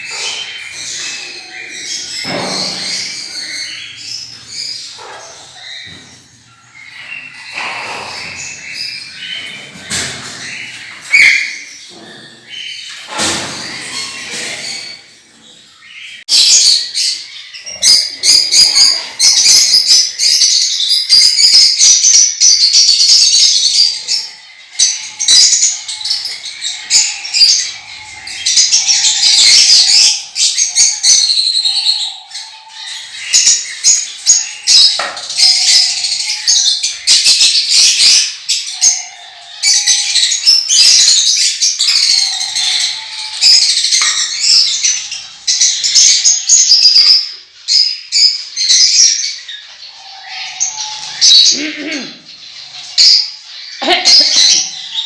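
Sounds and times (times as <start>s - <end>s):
parrots chattering and chirping: 0.0s - 55.0s.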